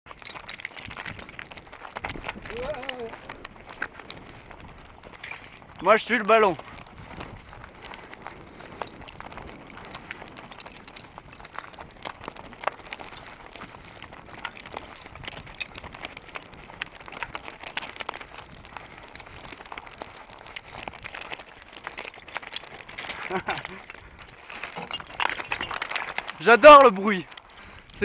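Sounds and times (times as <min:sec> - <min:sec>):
stones rattling and clicking: 0:00.1 - 0:28.0
tyre crunching over gravel: 0:00.1 - 0:28.0.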